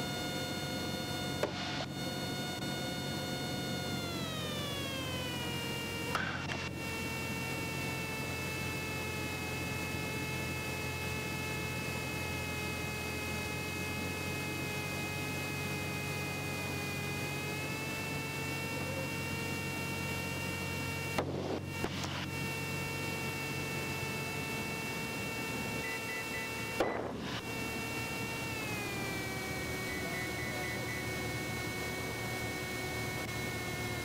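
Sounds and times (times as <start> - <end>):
aircraft engine droning: 0.0 - 34.0
high hum: 0.0 - 34.0.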